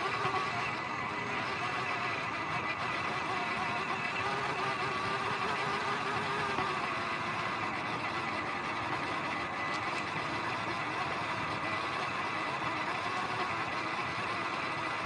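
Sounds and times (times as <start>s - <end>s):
small electric motor whine: 0.0s - 15.0s.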